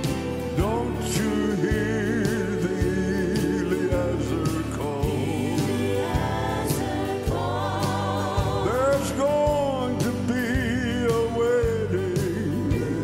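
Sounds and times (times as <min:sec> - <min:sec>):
band with a steady beat: 0:00.0 - 0:13.0
piano: 0:00.0 - 0:13.0
vocal group singing gospel: 0:00.0 - 0:13.0.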